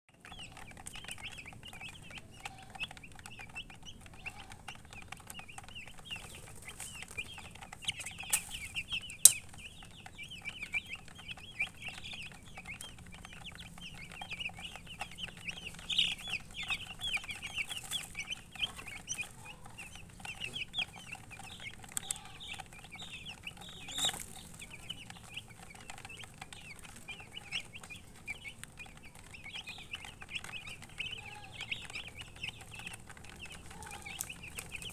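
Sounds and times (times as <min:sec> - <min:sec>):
baby chicks peeping: 0:00.1 - 0:34.9.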